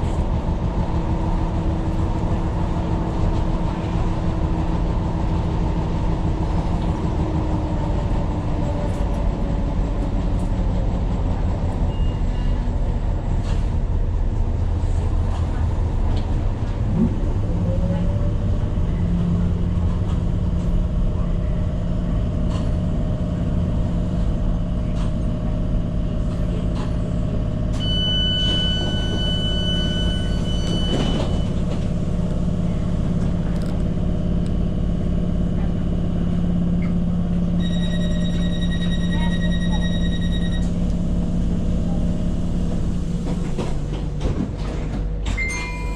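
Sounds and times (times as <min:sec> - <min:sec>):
train rumble and motor whine: 0:00.0 - 0:45.9.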